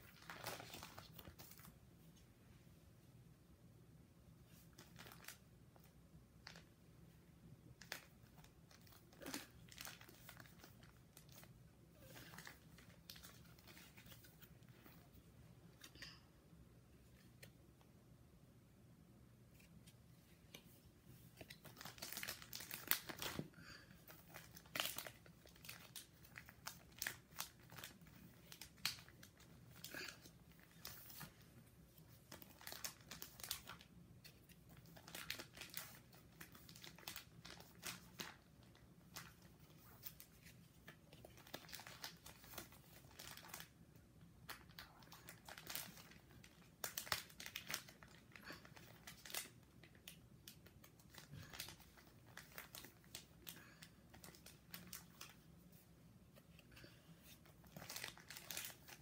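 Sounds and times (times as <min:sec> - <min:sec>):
plastic sleeves crinkling: 0:00.0 - 0:02.3, 0:04.4 - 0:06.9, 0:07.6 - 0:16.2, 0:19.5 - 0:59.0.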